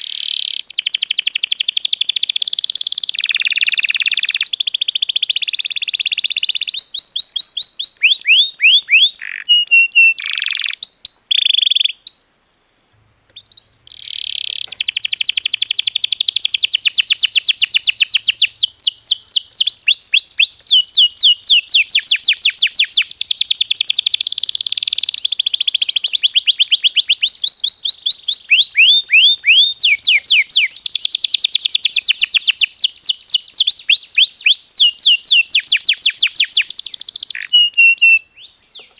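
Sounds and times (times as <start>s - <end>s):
canary singing trills: 0.0s - 12.3s, 13.3s - 38.9s.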